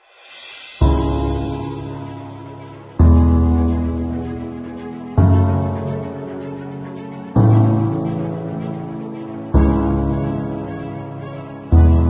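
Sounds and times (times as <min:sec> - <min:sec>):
gentle background music chord: 0:00.4 - 0:12.0.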